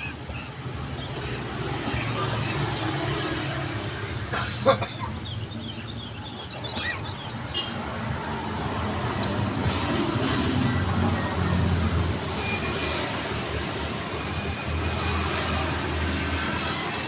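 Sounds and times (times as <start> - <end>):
passing vehicles hum: 0.0 - 17.0.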